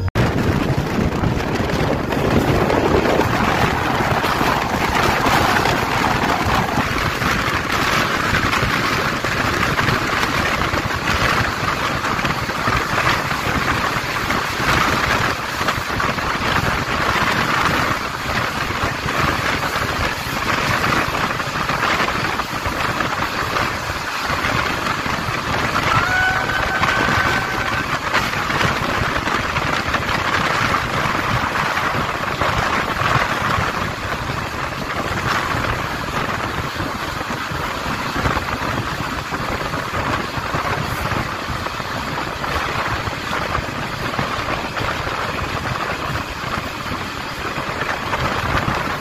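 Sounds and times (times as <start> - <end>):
train wheels on rails: 0.0 - 49.0
wind rushing: 0.0 - 49.0.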